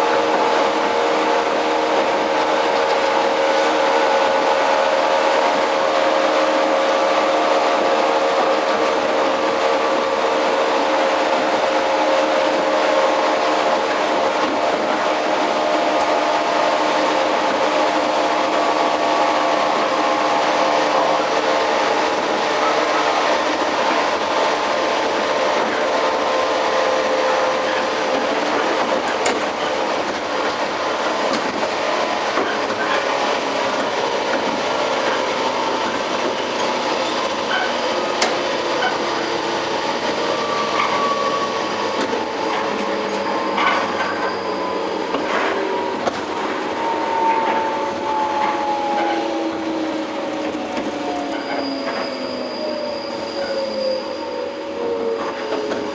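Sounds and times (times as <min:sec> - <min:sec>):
train motor whine: 0:00.0 - 0:55.9
train wheels rumbling: 0:00.0 - 0:55.9.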